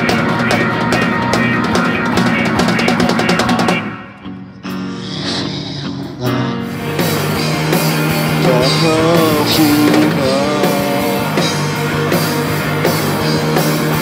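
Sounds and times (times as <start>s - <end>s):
drum kit: 0.0s - 14.0s
electric guitars: 0.0s - 14.0s.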